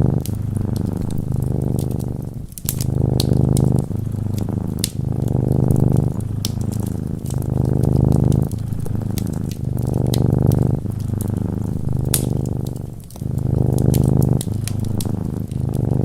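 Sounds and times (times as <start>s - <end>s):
cat purring: 0.0s - 16.0s
wood fire crackling: 0.0s - 16.0s.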